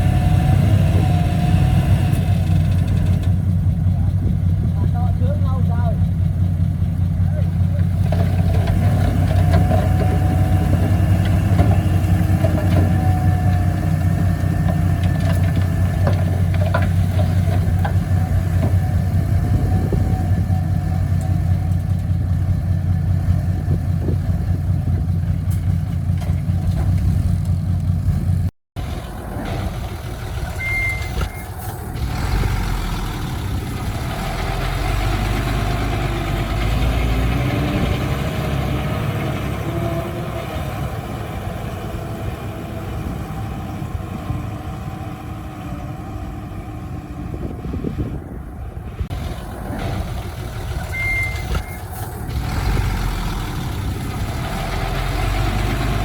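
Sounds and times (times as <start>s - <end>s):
heavy diesel engines droning: 0.0s - 56.0s.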